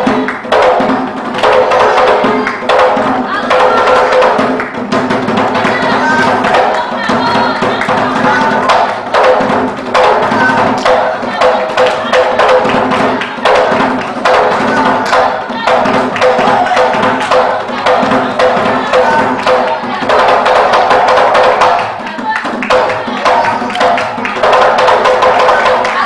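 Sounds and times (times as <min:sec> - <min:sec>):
fast hand-drum beat: 0:00.0 - 0:26.0.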